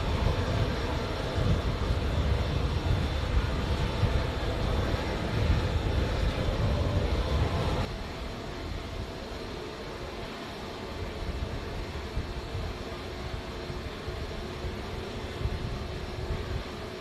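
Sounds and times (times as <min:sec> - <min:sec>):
jet turbines droning: 0:00.0 - 0:17.0.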